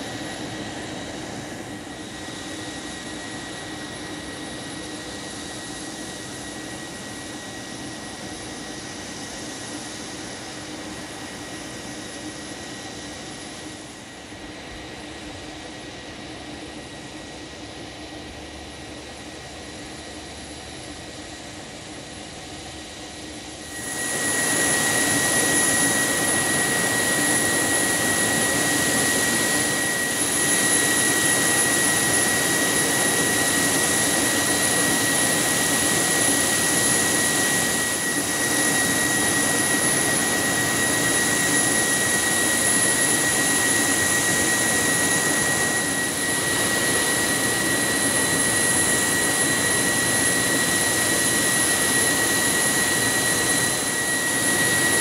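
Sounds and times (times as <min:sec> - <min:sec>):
gas turbine whine: 0:00.0 - 0:55.0.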